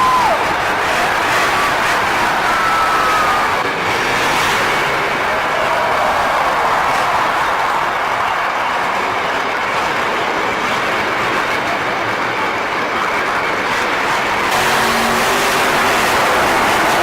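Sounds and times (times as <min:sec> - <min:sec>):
monster truck engines running: 0:00.0 - 0:17.0.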